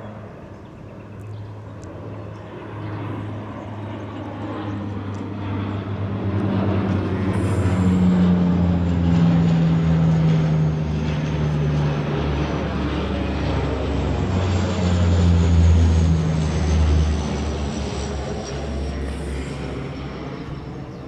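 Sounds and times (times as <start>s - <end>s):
propeller plane droning past: 0.0s - 21.0s.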